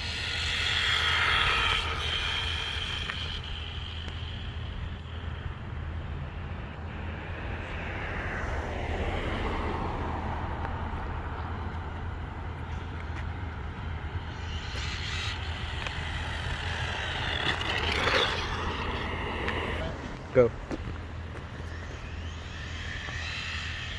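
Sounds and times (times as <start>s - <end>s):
steady low rumble: 0.0s - 23.9s
vehicle passing by: 0.0s - 23.9s.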